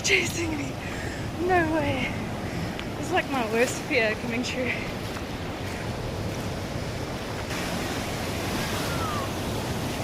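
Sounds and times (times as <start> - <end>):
ocean surf washing: 0.0 - 10.0.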